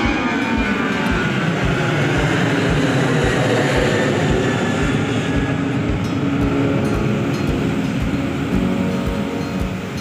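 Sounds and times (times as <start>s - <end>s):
jet engine noise: 0.0s - 10.0s.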